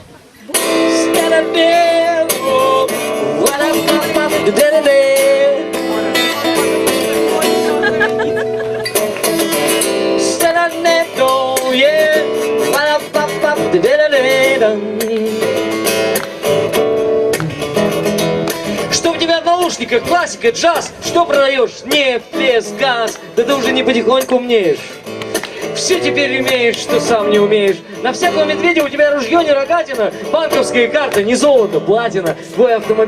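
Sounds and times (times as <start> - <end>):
acoustic guitar strumming: 0.4 - 33.0.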